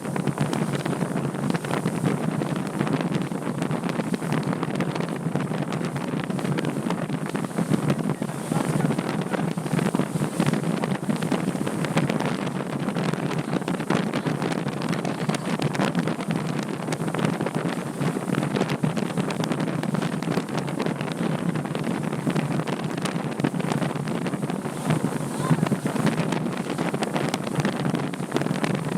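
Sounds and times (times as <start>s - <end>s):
steady low rumble: 0.0s - 28.9s
wind buffeting microphone: 0.0s - 28.9s.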